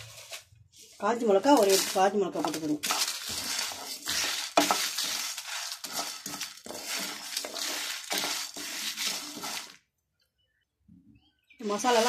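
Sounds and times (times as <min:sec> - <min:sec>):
seeds rattling in a pan: 0:00.0 - 0:09.8, 0:11.6 - 0:12.0.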